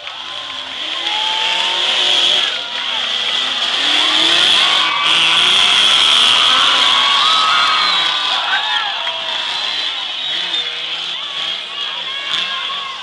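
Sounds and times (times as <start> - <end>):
off-road vehicle engine revving: 0.0 - 13.0
spectators' voices: 0.0 - 13.0.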